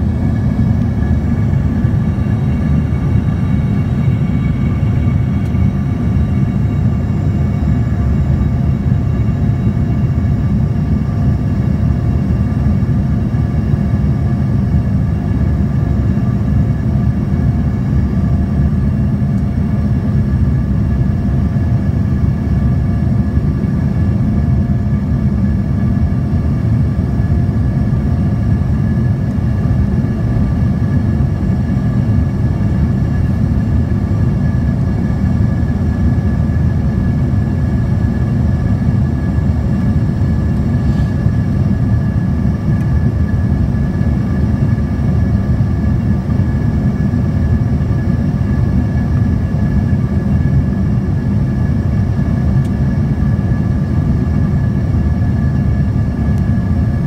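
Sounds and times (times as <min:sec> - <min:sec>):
airliner engines and airflow rumble: 0:00.0 - 0:57.0
faint steady whine: 0:00.0 - 0:57.0.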